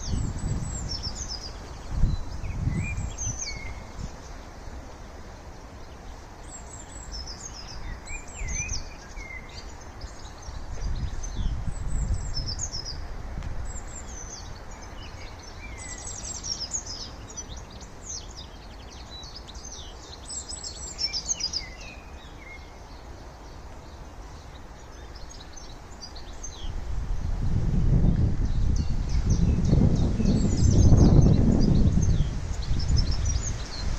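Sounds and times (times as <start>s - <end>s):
songbirds chirping and trilling: 0.0s - 33.9s
wind rumble on microphone: 0.0s - 33.9s.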